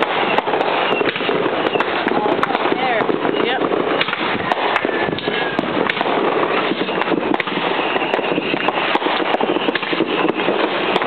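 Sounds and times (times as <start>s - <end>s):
firecrackers crackling: 0.0s - 11.0s
sharp firework bangs: 0.0s - 11.0s.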